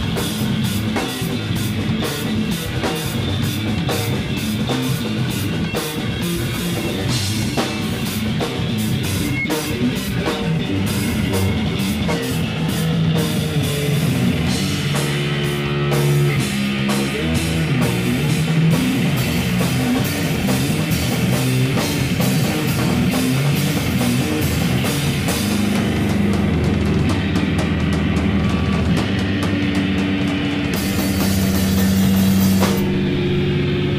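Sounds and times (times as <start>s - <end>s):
drum and cymbal hits: 0.0s - 33.9s
electric bass: 0.0s - 33.9s.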